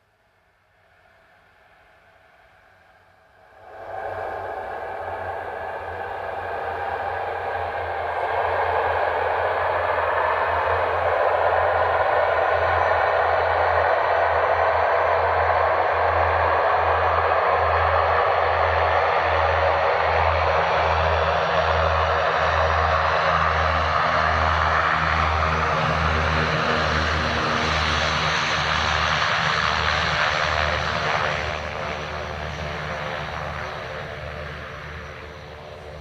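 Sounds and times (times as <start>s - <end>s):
turboprop aircraft engines running: 3.2s - 36.0s.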